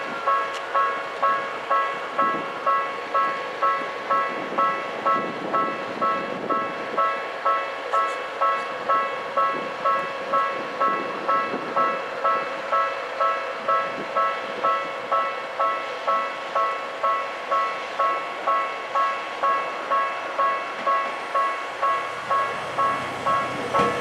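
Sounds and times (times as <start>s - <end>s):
electric train running: 0.0s - 24.0s
level-crossing warning bell ringing: 0.0s - 24.0s.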